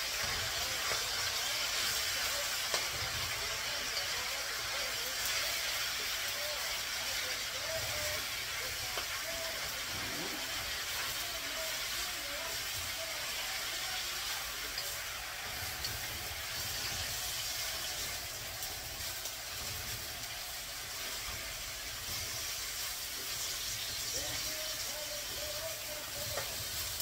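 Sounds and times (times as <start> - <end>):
vegetables sizzling in a wok: 0.0 - 27.0.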